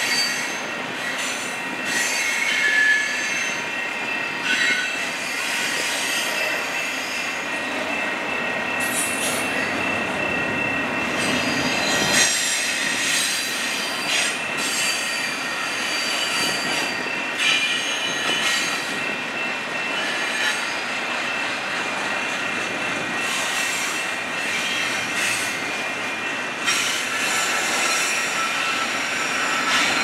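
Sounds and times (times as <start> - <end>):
freight train rumbling: 0.0 - 30.0
high wheel squeal: 0.0 - 30.0.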